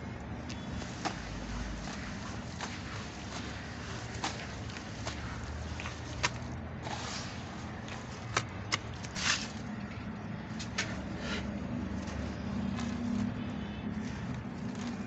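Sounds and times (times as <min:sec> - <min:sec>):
sand crunching and crumbling: 0:00.0 - 0:15.0.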